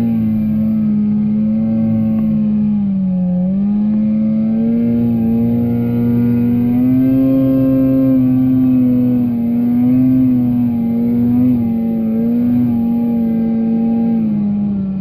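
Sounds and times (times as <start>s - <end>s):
snowmobile engine running hard: 0.0s - 15.0s.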